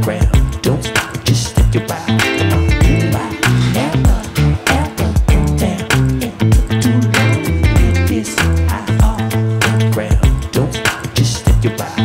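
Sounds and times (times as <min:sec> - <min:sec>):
steady bass line: 0:00.0 - 0:12.0.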